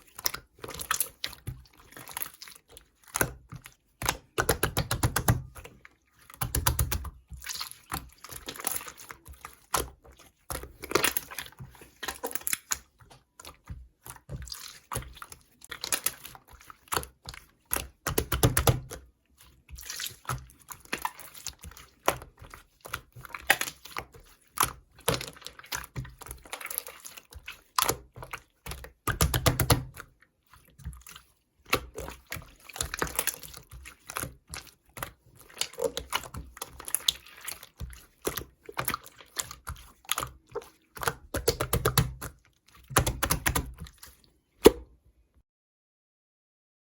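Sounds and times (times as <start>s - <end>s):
slime squished with wet clicks: 0.0s - 44.9s.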